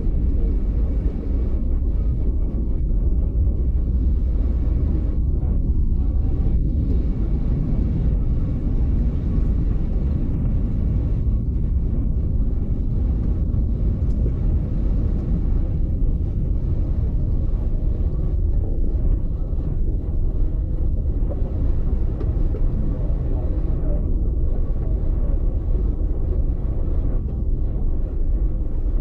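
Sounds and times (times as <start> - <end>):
train rumbling in motion: 0.0 - 29.0.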